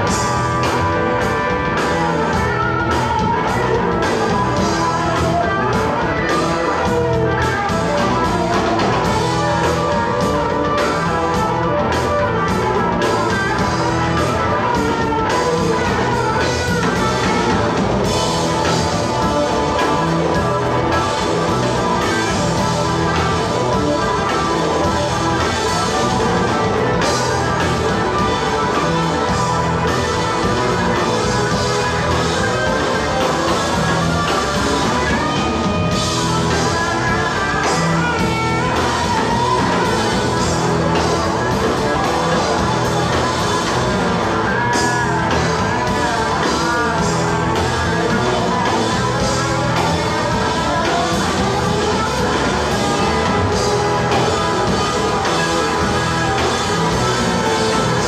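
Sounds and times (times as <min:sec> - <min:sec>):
electric blues band playing: 0:00.0 - 0:58.0
electric guitar lead bending notes: 0:00.0 - 0:58.0.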